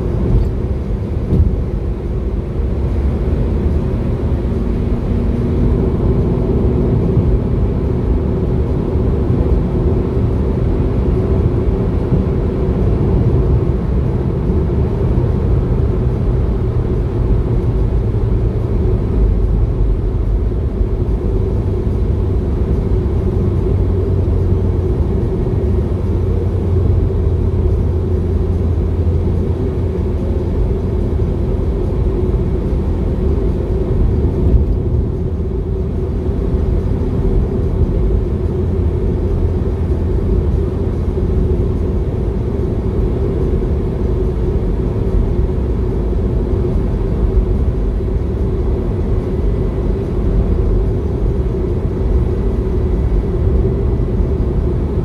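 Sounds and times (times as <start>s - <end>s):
vehicle driving rumble: 0.0s - 55.0s.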